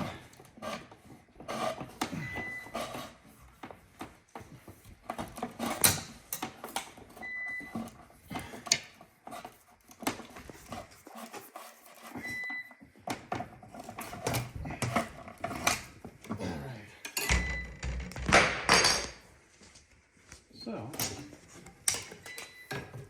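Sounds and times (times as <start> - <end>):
knocks and clatter of hand work: 0.3 - 16.4, 17.1 - 19.3, 20.9 - 23.0.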